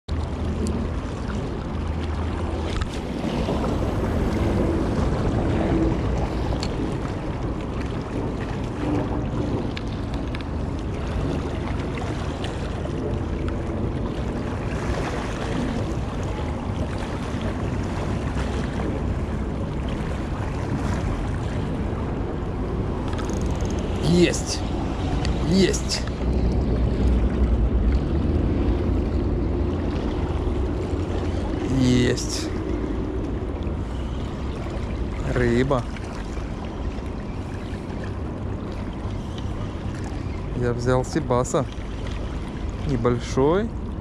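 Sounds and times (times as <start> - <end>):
wind on microphone: 0.1 - 40.6.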